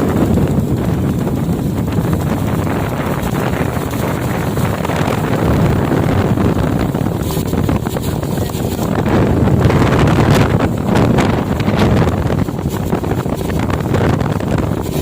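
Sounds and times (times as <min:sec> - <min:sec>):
boat running noise: 0:00.0 - 0:15.0
wind buffeting microphone: 0:00.0 - 0:15.0.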